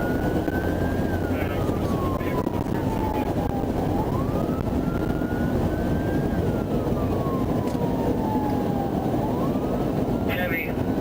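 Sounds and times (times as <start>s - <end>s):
police siren wailing: 0.0s - 11.0s
road and engine noise: 0.0s - 11.0s.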